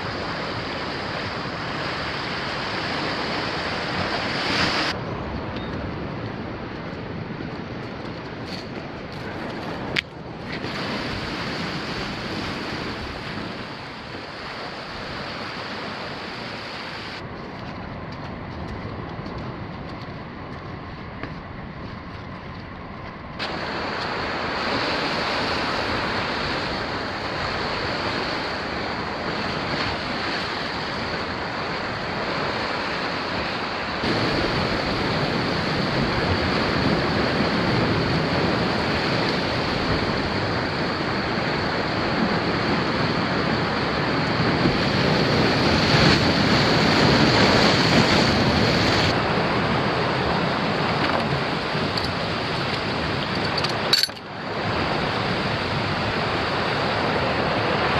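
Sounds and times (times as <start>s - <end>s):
waves washing on rocky shore: 0.0s - 5.0s, 7.0s - 17.3s, 23.4s - 57.9s
wind: 0.0s - 57.9s.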